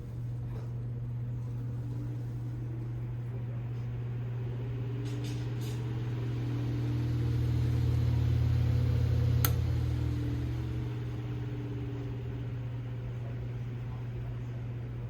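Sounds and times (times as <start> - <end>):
desk fan motor hum: 0.0 - 15.0.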